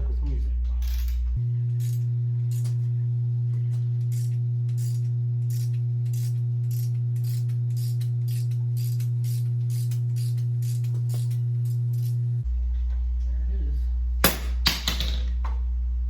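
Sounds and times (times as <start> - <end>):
electrical hum from speakers: 0.0 - 16.0.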